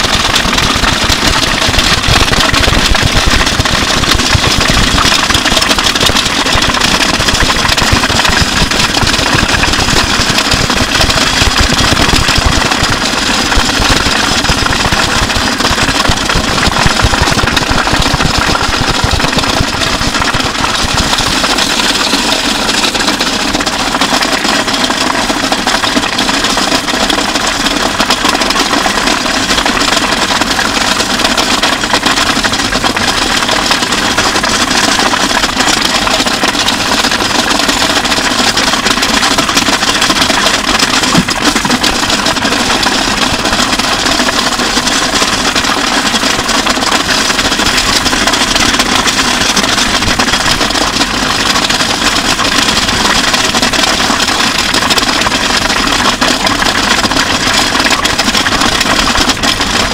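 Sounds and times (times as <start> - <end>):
dense electric guitar noise: 0.0 - 28.7, 30.4 - 59.9.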